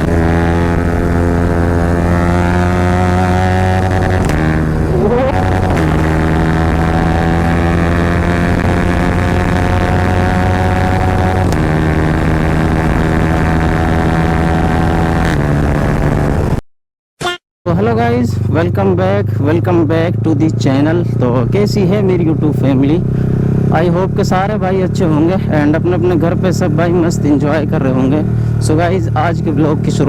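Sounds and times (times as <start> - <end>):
motorcycle engine at high revs: 0.0 - 16.6, 18.4 - 30.0.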